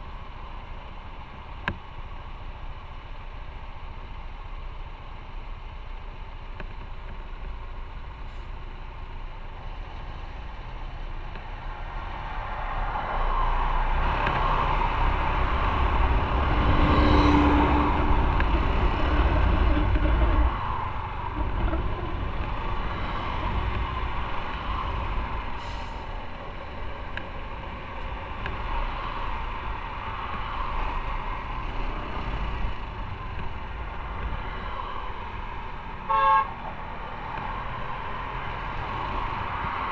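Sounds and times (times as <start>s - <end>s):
heavy traffic rumble: 0.0s - 39.9s
motorcycle engine and road noise: 0.0s - 39.9s.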